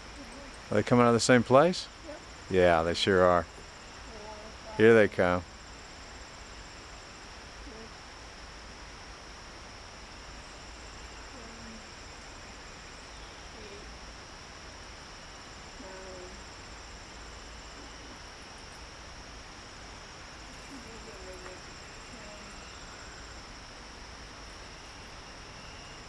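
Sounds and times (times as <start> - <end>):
crickets trilling: 0.0 - 26.0
faint background hiss: 0.0 - 26.0.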